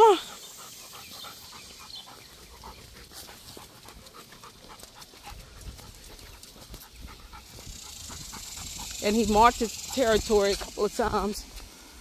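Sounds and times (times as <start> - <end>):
dog panting: 0.2 - 11.3.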